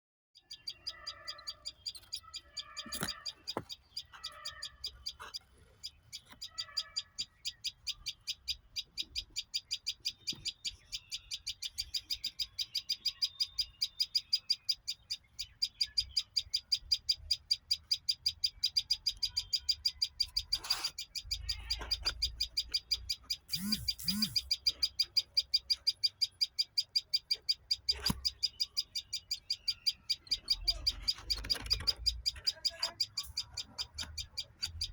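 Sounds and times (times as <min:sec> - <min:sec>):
bird chirping: 0:00.4 - 0:34.9
lower bird calls: 0:00.4 - 0:34.9.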